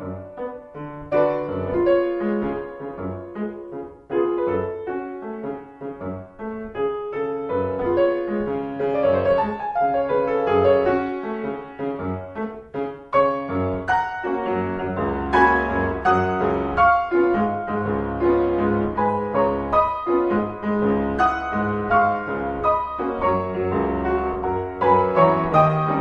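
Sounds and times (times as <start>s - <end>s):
solo piano classical piece: 0.0s - 26.0s.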